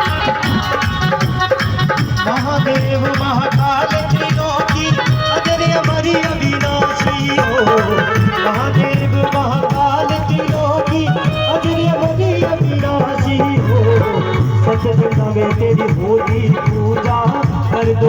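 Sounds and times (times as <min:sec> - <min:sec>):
hand drum rhythm: 0:00.0 - 0:18.0.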